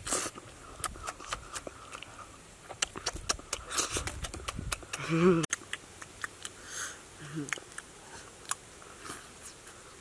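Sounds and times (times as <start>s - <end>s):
person chewing: 0.0s - 6.6s, 7.2s - 9.6s.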